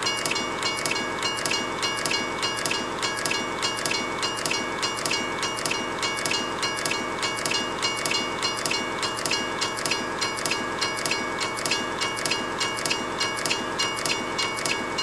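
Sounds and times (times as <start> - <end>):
train wheels clicking over rail joints: 0.0 - 15.0.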